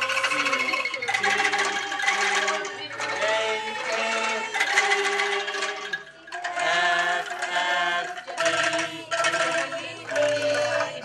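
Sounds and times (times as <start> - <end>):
bamboo angklung ensemble melody: 0.0 - 11.0.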